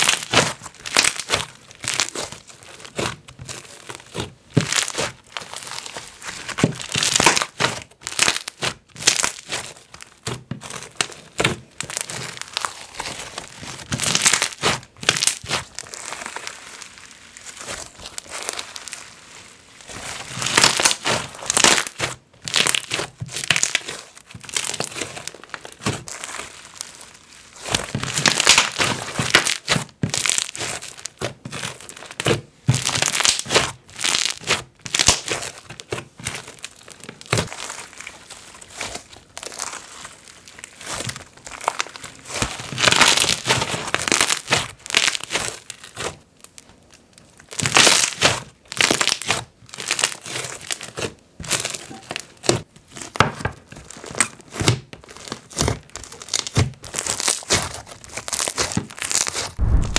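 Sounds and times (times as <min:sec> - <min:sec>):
slime sticky crackling: 0:00.0 - 0:53.1, 0:53.8 - 0:59.9.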